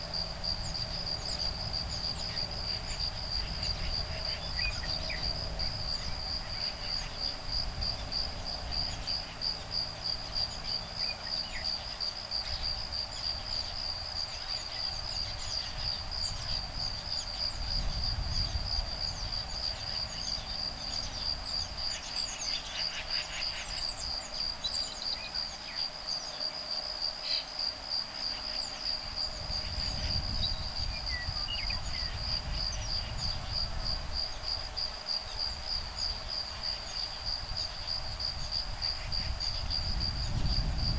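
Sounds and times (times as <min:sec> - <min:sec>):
insects trilling: 0:00.0 - 0:40.9
low breeze rumble: 0:00.0 - 0:40.9.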